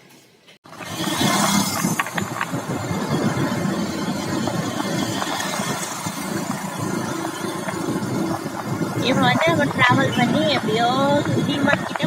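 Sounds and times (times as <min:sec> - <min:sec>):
road noise: 0:00.1 - 0:12.0
vehicle engine running: 0:00.6 - 0:12.0.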